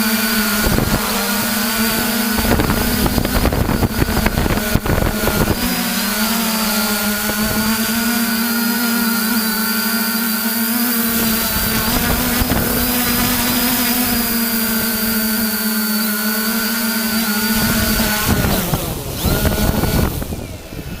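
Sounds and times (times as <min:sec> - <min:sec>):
drone propellers humming: 0:00.0 - 0:21.0.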